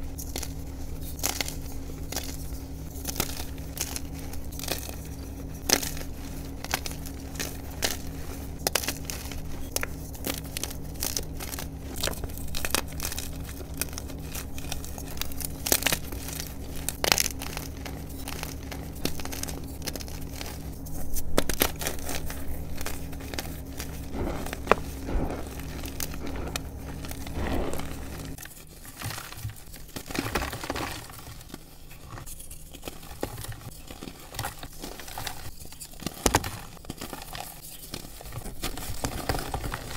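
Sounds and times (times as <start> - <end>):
low steady hum: 0.0 - 39.9
powdery crumbling: 0.1 - 39.9
hands crushing chalk blocks: 0.2 - 39.9.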